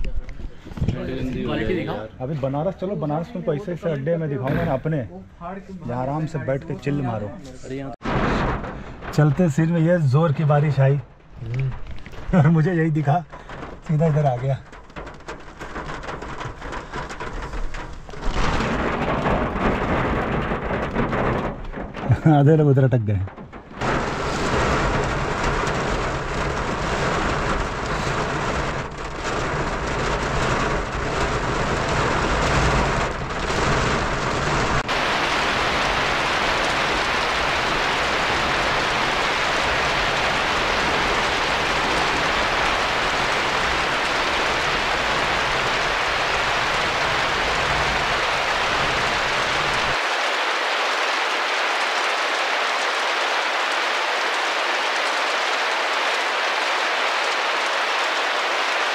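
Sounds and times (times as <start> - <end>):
low road rumble: 0.0 - 58.9
heavy rain on a car: 8.0 - 58.9.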